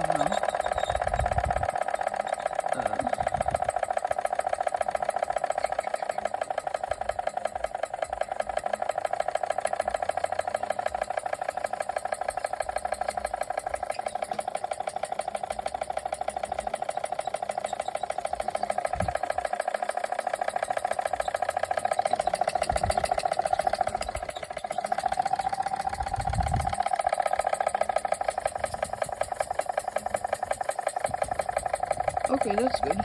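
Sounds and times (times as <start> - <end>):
toy steam engine chuffing: 0.0 - 33.0.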